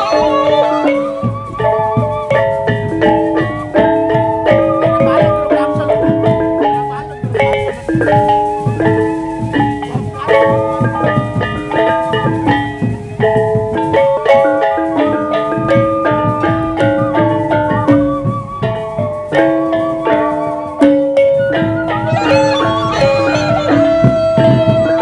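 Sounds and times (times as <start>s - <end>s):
drum hits: 0.0s - 25.0s
wavering high melodic line: 0.0s - 25.0s.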